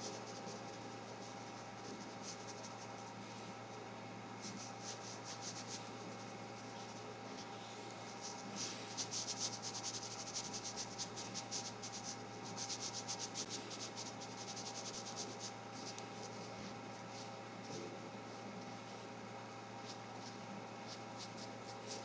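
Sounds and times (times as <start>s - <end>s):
brush pen stroking on glossy paper: 0.0s - 3.0s, 4.4s - 18.5s, 19.7s - 22.0s.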